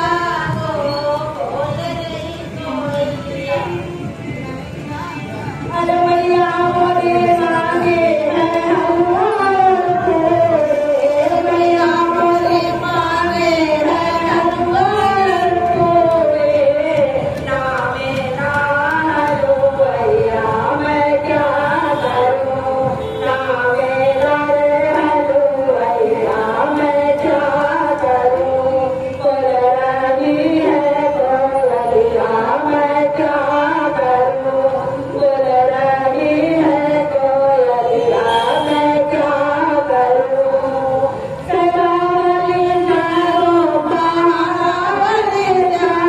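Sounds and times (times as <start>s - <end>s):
woman singing devotional song: 0.0s - 4.1s, 5.6s - 46.0s.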